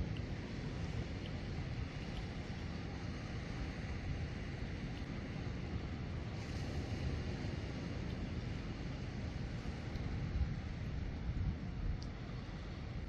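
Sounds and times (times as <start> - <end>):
sea water washing on shore: 0.0 - 13.0
wind buffeting microphone: 0.0 - 13.0.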